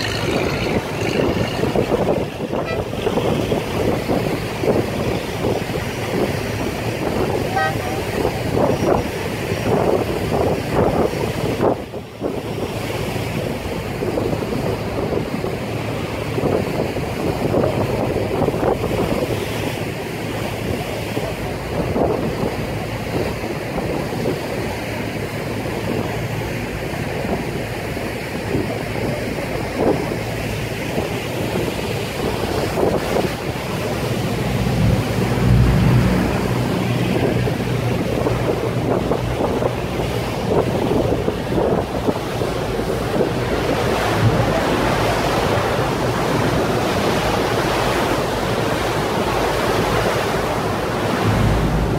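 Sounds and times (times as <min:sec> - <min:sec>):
boat engine hum: 0:00.0 - 0:51.9
water rushing past boat: 0:00.0 - 0:51.9
wind buffeting microphone: 0:00.0 - 0:51.9.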